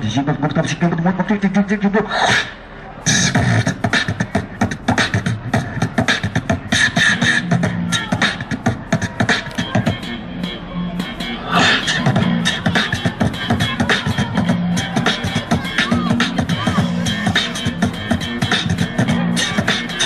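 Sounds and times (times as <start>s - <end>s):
beatboxing into a microphone: 0.0s - 20.0s.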